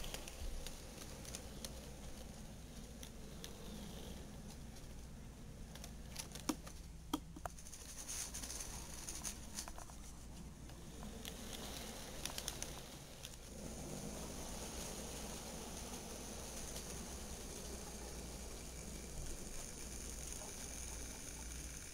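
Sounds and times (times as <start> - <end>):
model train wheels clicking: 0.0 - 21.9.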